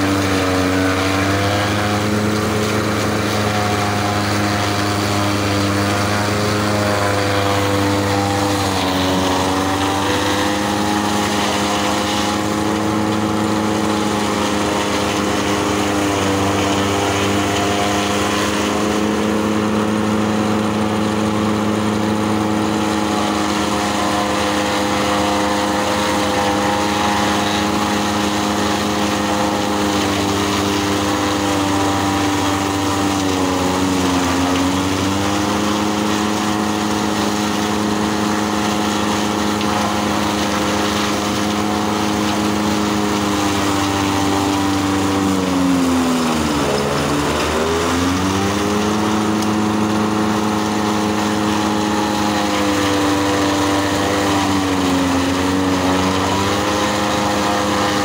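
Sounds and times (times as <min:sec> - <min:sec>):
fodder chopper cutting stalks: 0:00.0 - 0:58.0
tractor engine running: 0:00.0 - 0:58.0.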